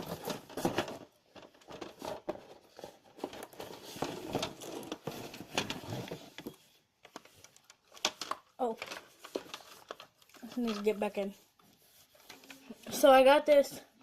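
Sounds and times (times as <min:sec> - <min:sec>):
plastic packaging crinkling: 0:00.0 - 0:11.4
rustling and clicks of handling: 0:00.0 - 0:13.6.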